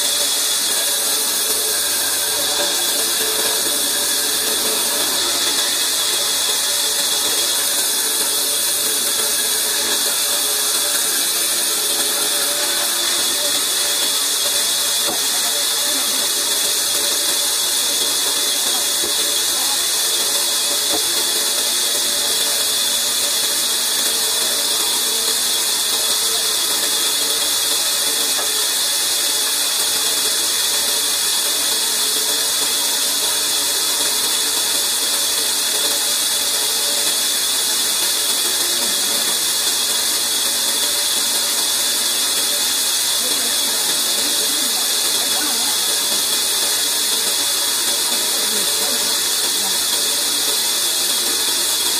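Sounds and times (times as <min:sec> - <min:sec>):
bandsaw cutting wood: 0:00.0 - 0:51.9.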